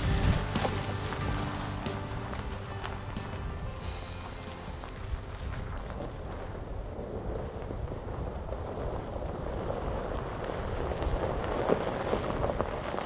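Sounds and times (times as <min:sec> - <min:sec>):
tyres crunching over gravel: 0:00.0 - 0:13.0
wind buffeting microphone: 0:00.0 - 0:13.0.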